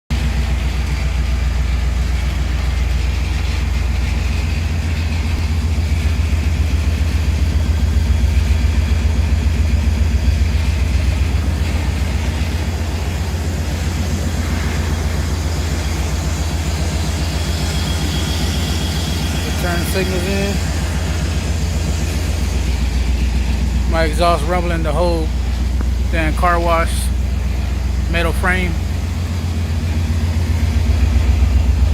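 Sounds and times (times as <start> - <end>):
engine rumbling with loud exhaust: 0.1 - 31.9.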